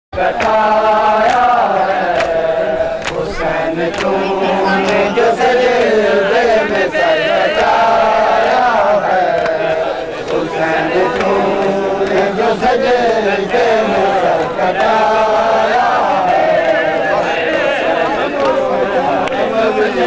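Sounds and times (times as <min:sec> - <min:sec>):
men chanting a lament: 0:00.2 - 0:20.0.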